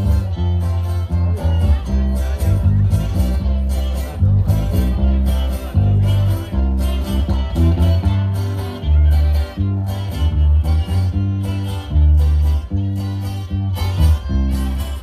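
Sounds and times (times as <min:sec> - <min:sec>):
dance music with guitars: 0:00.0 - 0:15.0.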